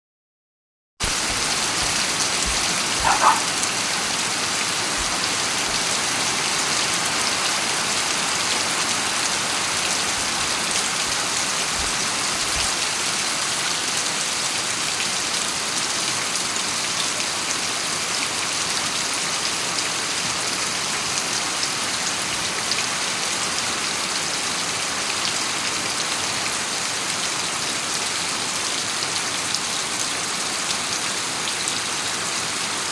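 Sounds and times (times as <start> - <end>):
rain falling on road: 1.0 - 32.9.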